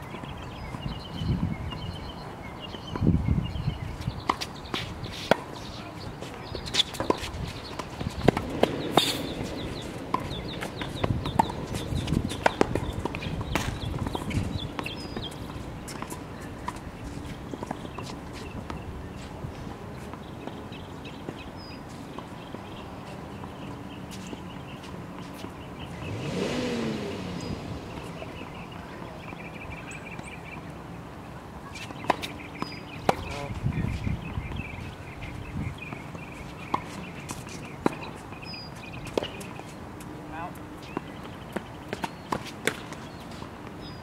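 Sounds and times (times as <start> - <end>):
birds chirping: 0.0 - 44.0
tennis balls struck and bouncing: 4.0 - 26.1, 26.8 - 33.6, 34.5 - 44.0.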